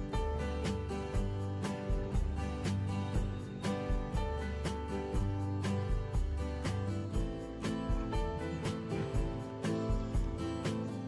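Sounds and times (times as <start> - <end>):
music with a steady beat: 0.0 - 11.0.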